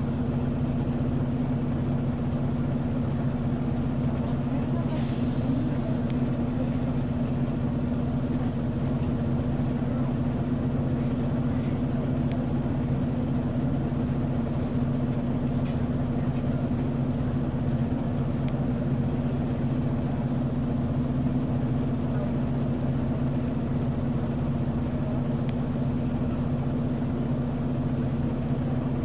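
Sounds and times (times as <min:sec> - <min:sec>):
diesel bus engine idling: 0:00.0 - 0:29.0.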